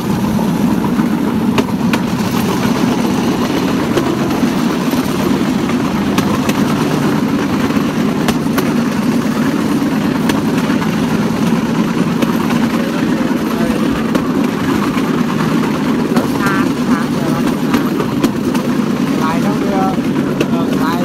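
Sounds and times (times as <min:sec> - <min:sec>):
small engine running: 0:00.0 - 0:21.0
wheels clicking on rails: 0:00.0 - 0:21.0.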